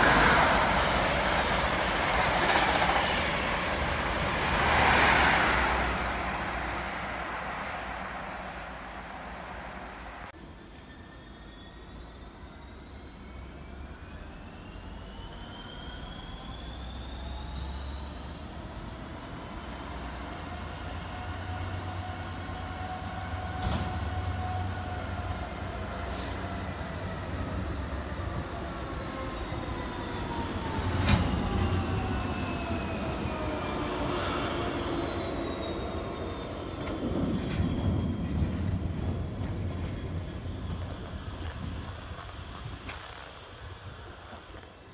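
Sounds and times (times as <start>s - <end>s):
low train rumble: 0.0s - 44.9s.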